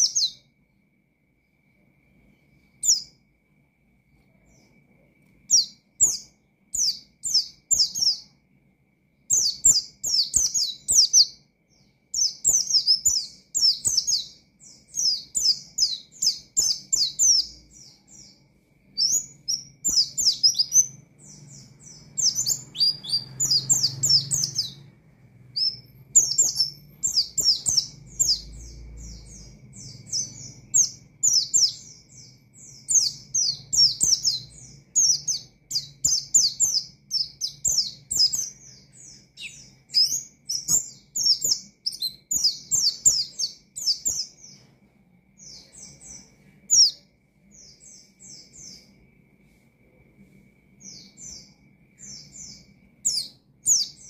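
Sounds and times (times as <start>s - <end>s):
bird singing rapid chirps: 0.0s - 0.8s, 1.7s - 3.4s, 4.1s - 44.7s, 45.3s - 49.0s, 50.8s - 54.0s.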